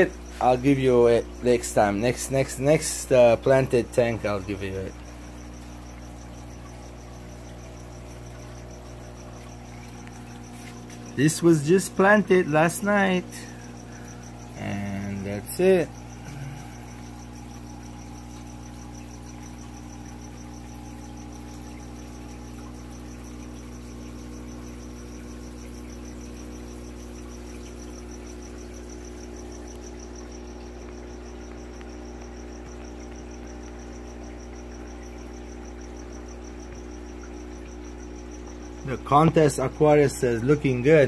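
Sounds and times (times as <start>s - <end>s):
aquarium pump humming: 0.0s - 41.0s.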